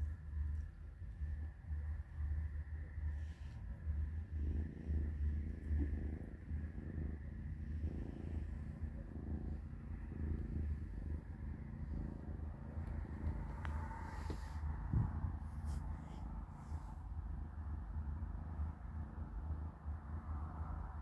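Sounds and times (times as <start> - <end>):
kitten purring: 0.0 - 21.0.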